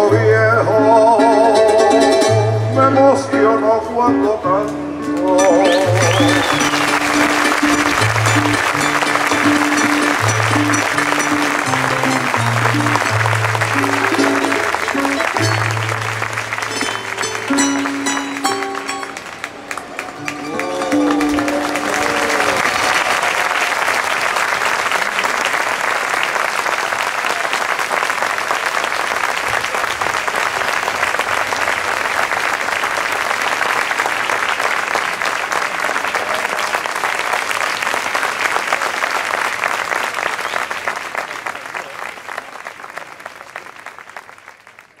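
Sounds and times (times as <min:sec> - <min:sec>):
large audience applauding: 0:05.2 - 0:45.0.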